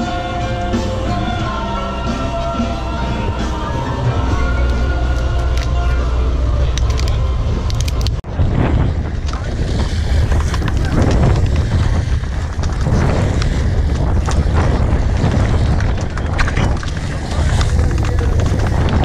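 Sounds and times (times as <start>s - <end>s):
boat engine drone: 0.0s - 19.0s
water noise: 0.0s - 19.0s
wind buffeting microphone: 3.2s - 19.0s.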